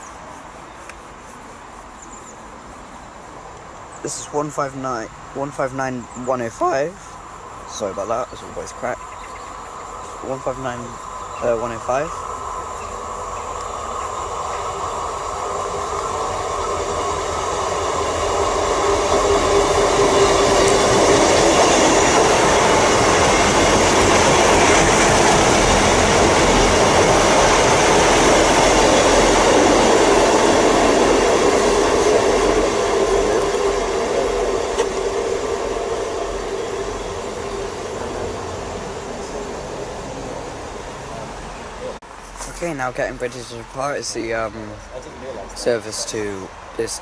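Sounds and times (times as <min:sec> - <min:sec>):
diesel train passing: 0:00.0 - 0:47.0.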